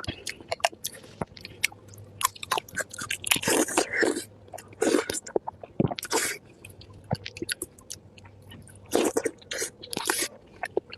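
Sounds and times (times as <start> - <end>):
crunchy chewing: 0.0 - 10.9
person chewing food: 0.0 - 10.9.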